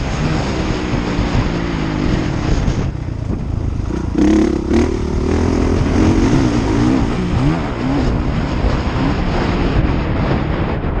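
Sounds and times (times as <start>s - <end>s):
motocross bike engine revving: 0.0s - 10.2s.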